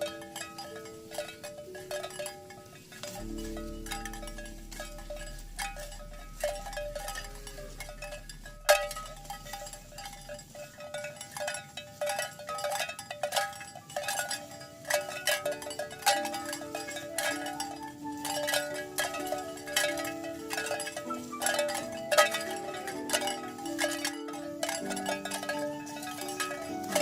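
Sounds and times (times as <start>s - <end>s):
cowbells clanking: 0.0s - 27.0s.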